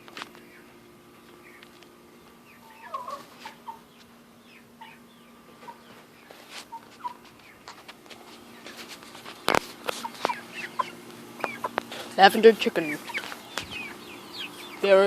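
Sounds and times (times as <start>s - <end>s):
chickens clucking softly: 0.3s - 12.1s, 12.8s - 15.0s.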